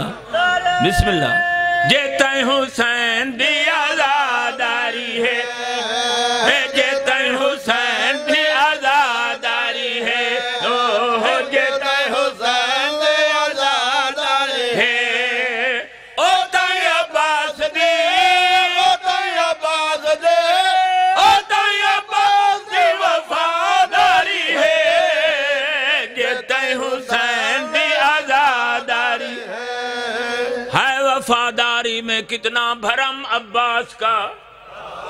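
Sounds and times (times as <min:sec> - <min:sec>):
man chanting: 0:00.0 - 0:21.4, 0:24.2 - 0:34.5
men's voices joining chant: 0:01.5 - 0:30.7.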